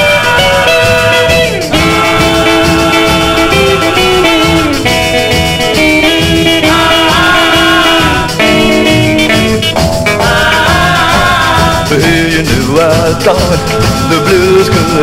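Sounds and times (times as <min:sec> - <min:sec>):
instrumental blues band playing: 0:00.0 - 0:15.0.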